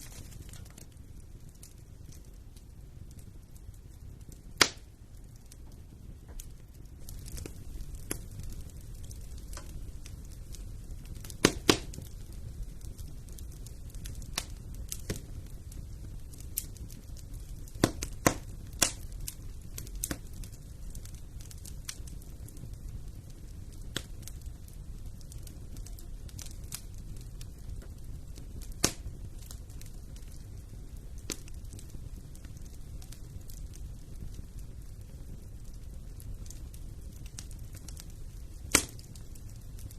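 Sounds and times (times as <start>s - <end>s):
logs popping and crackling: 0.0s - 39.9s
low rumble of flames: 0.0s - 39.9s.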